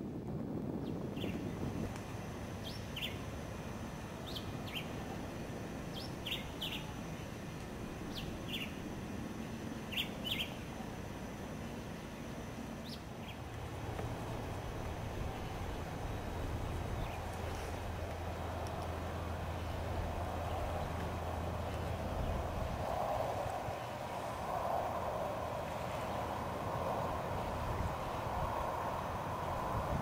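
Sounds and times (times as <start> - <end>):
low background hiss: 0.0 - 30.0.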